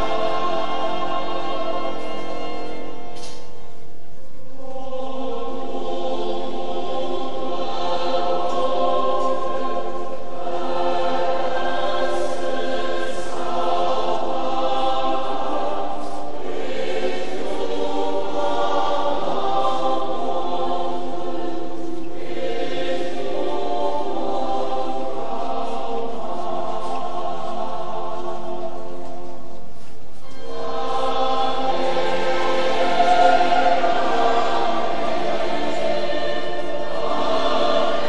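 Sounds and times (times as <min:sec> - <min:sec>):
crowd singing a hymn: 0:00.0 - 0:38.0.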